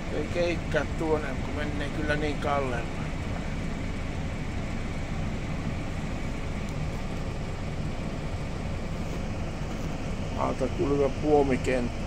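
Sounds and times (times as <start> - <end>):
excavator diesel engine: 0.0 - 12.0
tractor engine running: 0.0 - 12.0.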